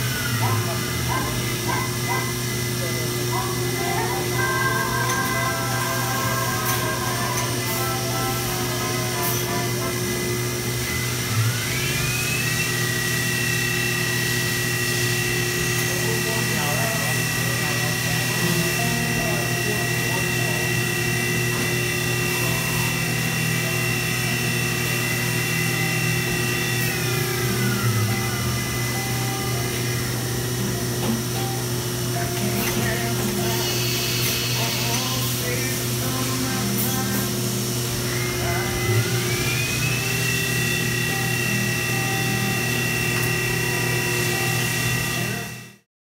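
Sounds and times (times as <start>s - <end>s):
low machine hum: 0.0s - 45.9s
milling machine spindle whine: 0.0s - 45.9s.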